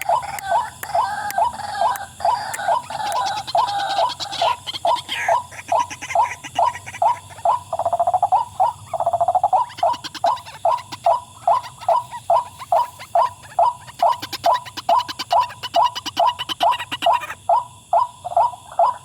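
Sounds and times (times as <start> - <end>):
bird calling repeated wak notes: 0.0 - 17.4
low rattling bird churr: 0.0 - 19.0.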